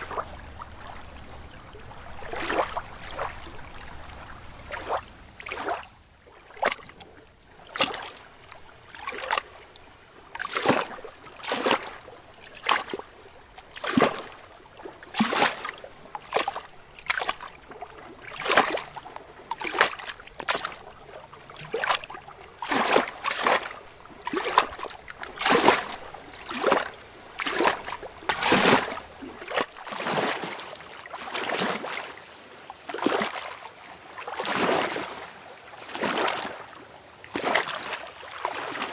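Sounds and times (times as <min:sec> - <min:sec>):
lake water lapping and splashing: 0:00.0 - 0:38.9.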